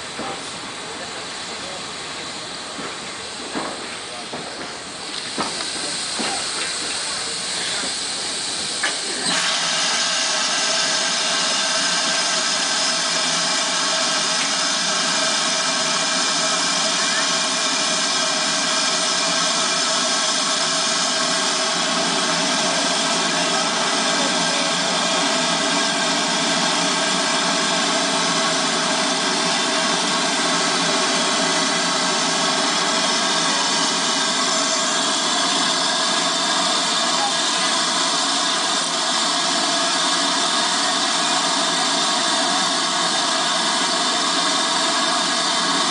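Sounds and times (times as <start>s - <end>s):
steam hissing from locomotive: 0.0s - 45.9s.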